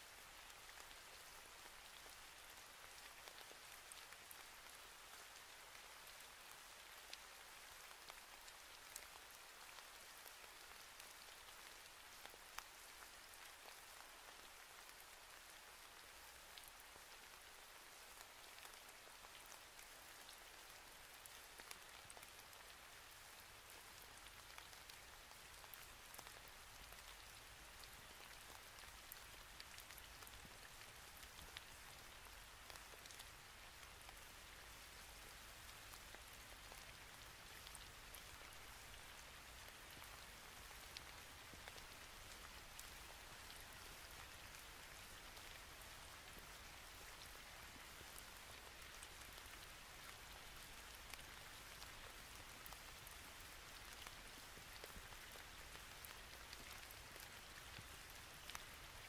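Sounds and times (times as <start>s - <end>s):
faint hiss: 0.0s - 59.0s.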